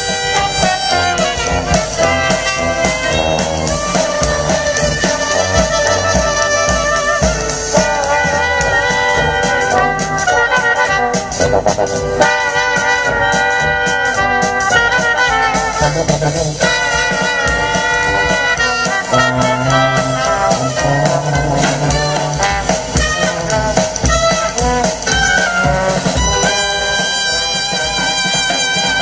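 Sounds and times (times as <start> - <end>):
drums: 0.0 - 29.0
trumpet melody: 0.0 - 29.0
tuba: 0.0 - 29.0.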